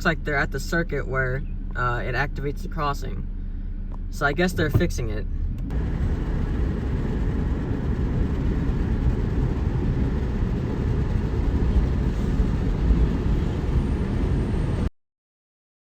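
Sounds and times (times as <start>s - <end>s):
low vehicle rumble: 0.0s - 14.9s.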